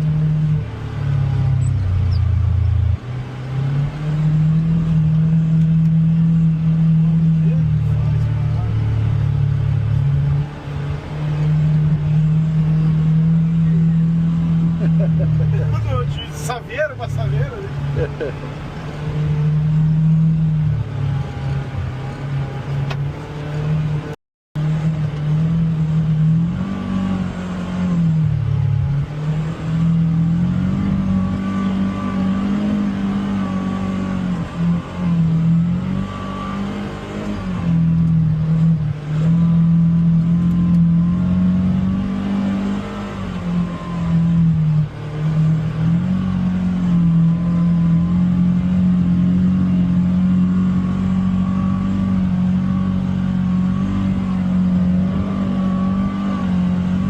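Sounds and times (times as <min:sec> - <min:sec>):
utility vehicle engine revving: 0:00.0 - 0:57.0.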